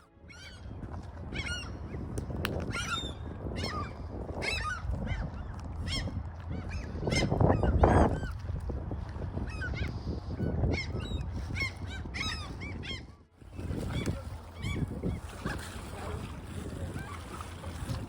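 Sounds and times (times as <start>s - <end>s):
low steady rumble: 0.0s - 18.0s
seagulls squealing: 0.1s - 8.4s, 9.4s - 18.0s.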